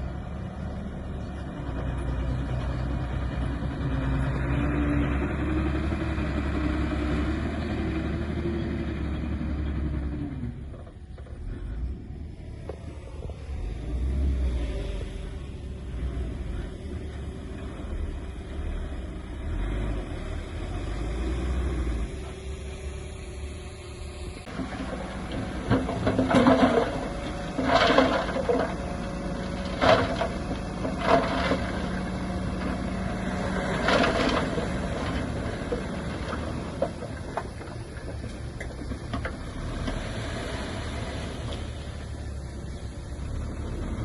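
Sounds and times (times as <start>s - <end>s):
heavy machinery engine rumble: 0.0s - 44.0s.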